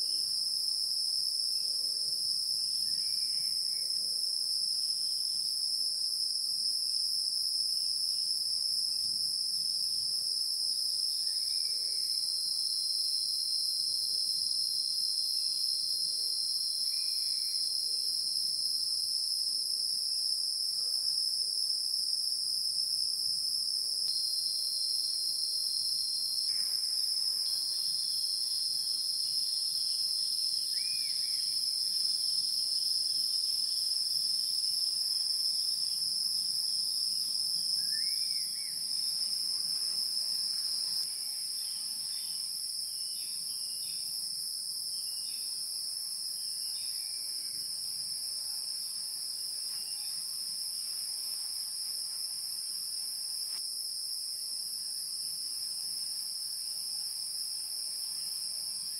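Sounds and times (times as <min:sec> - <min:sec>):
shrill insect chorus trilling: 0:00.0 - 0:58.9.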